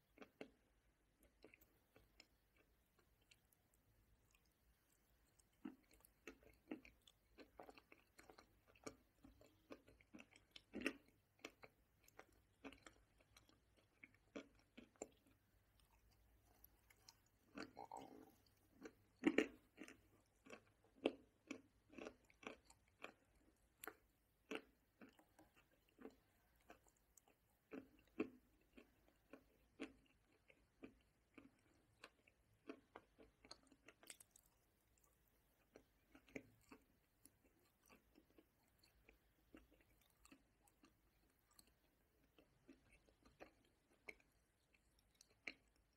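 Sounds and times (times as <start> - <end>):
crunchy chewing of nuts: 0.1 - 45.9.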